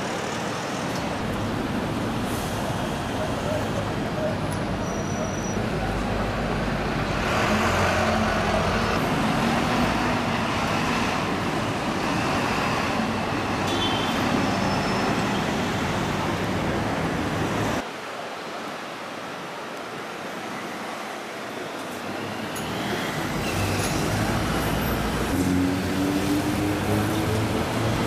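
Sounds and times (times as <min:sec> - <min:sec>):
vehicles passing: 0:00.0 - 0:17.8, 0:20.8 - 0:28.0.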